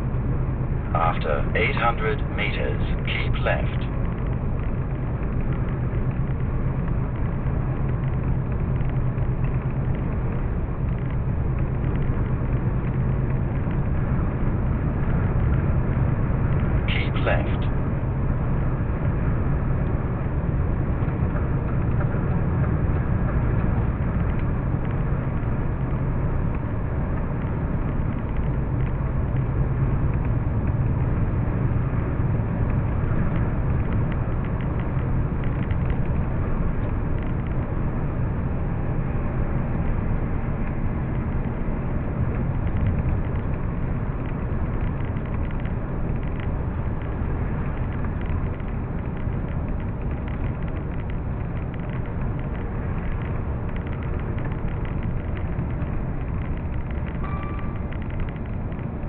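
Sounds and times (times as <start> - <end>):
vehicle cabin road drone: 0.0 - 59.0.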